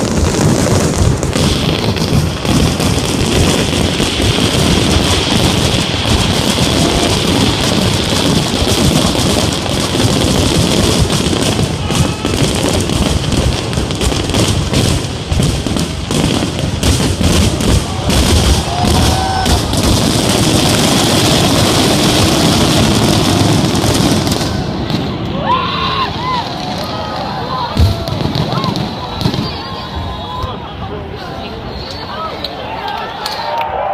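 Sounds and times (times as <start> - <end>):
fireworks banging and crackling: 0.0 - 33.9.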